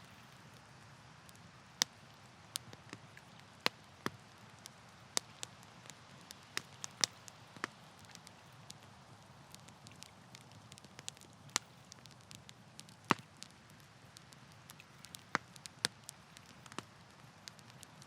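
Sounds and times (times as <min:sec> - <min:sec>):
campfire crackling and popping: 0:00.0 - 0:18.0
soft low hiss: 0:00.0 - 0:18.0.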